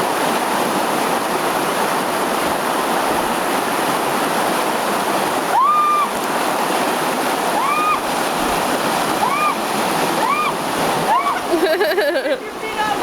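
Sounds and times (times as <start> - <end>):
rush of moving water: 0.0 - 13.0.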